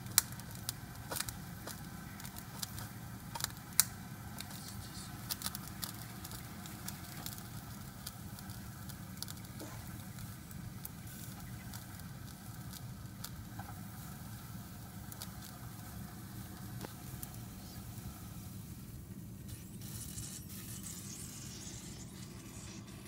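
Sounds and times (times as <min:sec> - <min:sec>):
small crackles and ticks: 0:00.0 - 0:23.0
steady low hum: 0:00.0 - 0:23.0.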